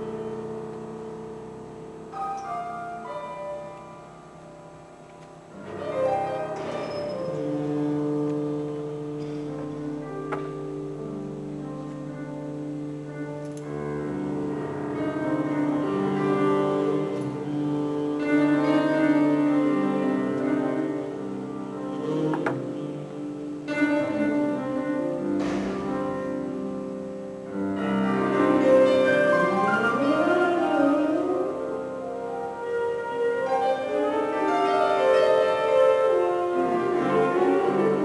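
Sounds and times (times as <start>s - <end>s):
slow ambient music: 0.0s - 38.0s.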